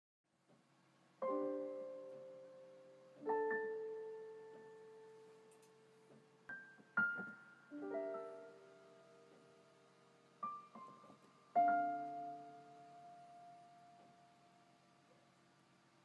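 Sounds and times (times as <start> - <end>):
soft slow piano music: 1.2 - 16.0.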